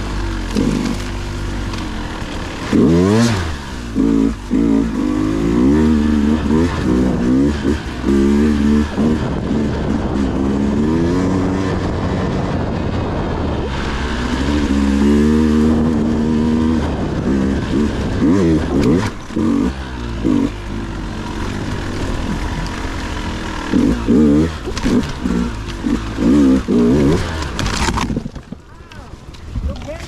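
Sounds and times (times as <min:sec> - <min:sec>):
dirt bike engine revving: 0:00.0 - 0:28.4.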